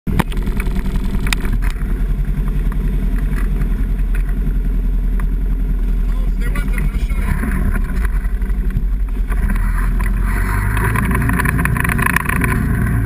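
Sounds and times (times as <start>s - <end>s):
atv engine running: 0.1s - 13.0s
sharp clicks and rattles: 0.1s - 13.0s.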